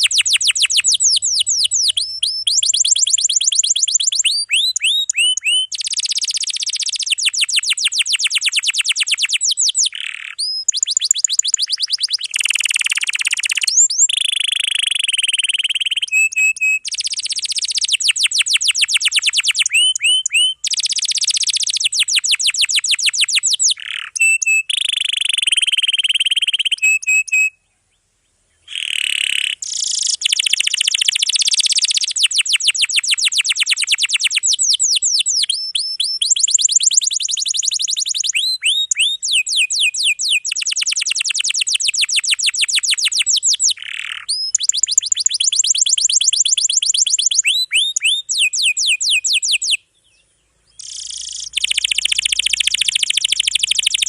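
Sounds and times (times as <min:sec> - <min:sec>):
canary singing trills: 0:00.0 - 0:27.7, 0:28.6 - 0:54.0.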